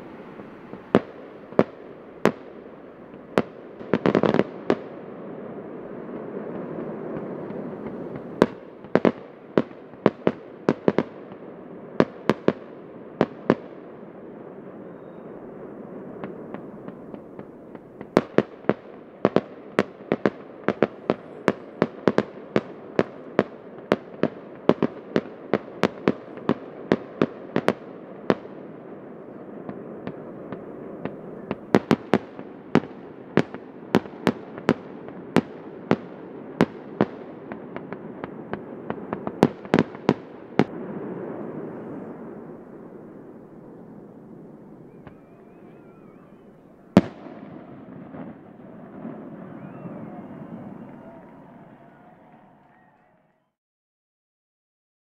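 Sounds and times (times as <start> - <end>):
background wash: 0.0 - 51.8
fireworks bangs: 0.0 - 53.0.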